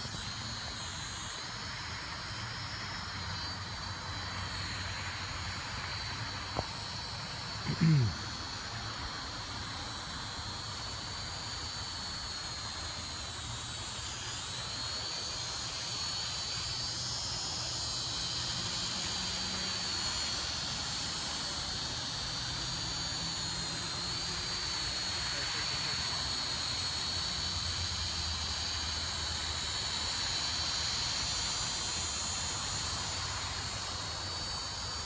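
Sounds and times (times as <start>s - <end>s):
toy quadcopter motors whining: 0.0s - 35.0s.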